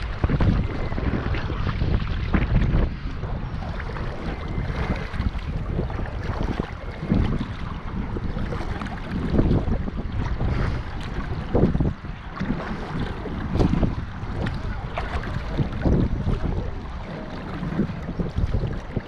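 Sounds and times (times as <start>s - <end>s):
sea water splashing: 0.0s - 19.0s
wind rumbling on microphone: 0.0s - 19.0s.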